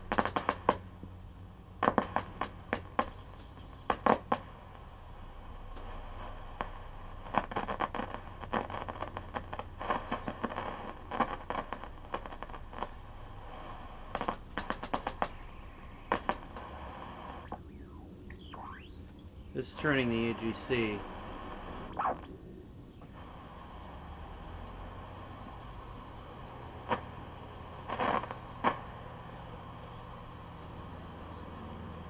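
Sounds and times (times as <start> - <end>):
low hum and hiss: 0.0 - 32.0.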